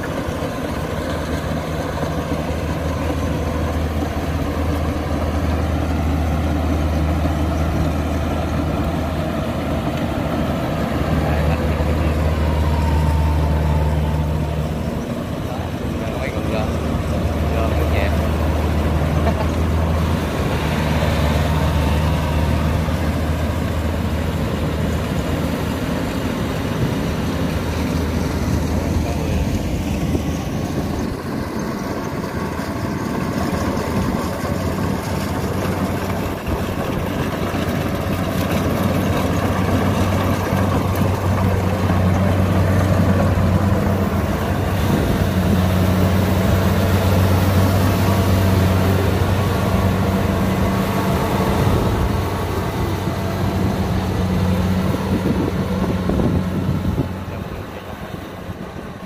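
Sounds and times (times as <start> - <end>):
diesel engine running: 0.0 - 59.0
threshing machinery running: 0.0 - 59.0.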